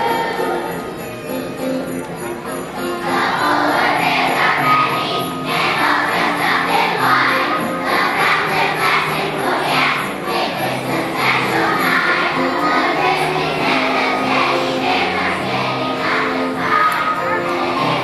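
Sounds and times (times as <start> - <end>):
children's choir singing: 0.0 - 1.7, 2.7 - 18.0.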